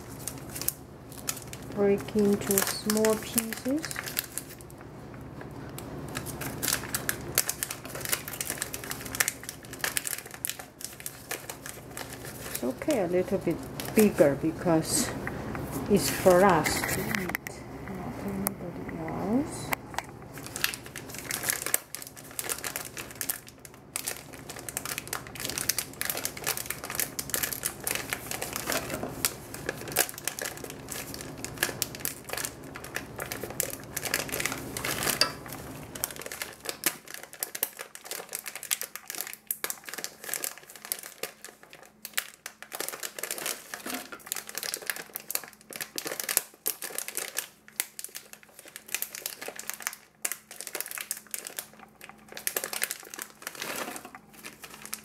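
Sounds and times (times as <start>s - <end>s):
foil wrapper crinkling: 0.0s - 17.3s, 20.2s - 55.0s
low background hum: 0.0s - 55.0s.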